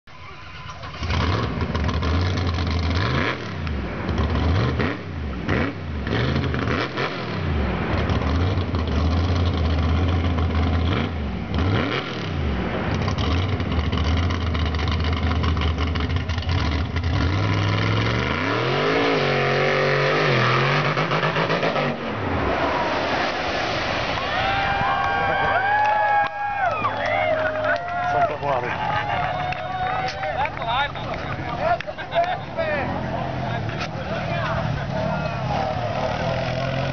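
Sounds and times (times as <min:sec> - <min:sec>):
monster truck engine revving: 0:00.1 - 0:27.7, 0:28.7 - 0:36.9.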